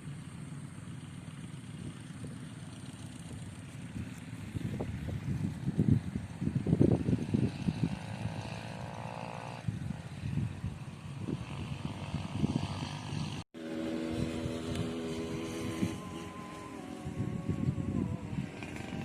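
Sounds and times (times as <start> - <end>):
faint engine hum: 0.0 - 19.0
small engine droning: 0.0 - 19.0
wind rumble on microphone: 1.6 - 19.0.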